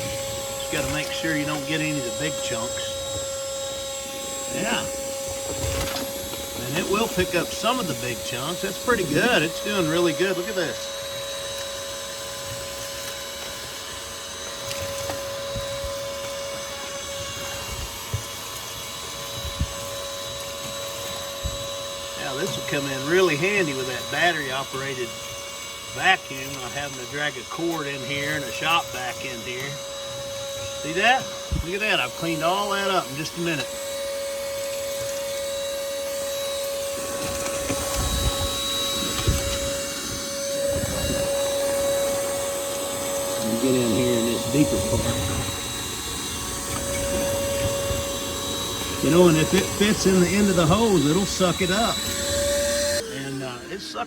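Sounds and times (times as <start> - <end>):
vacuum motor whining: 0.0 - 54.0.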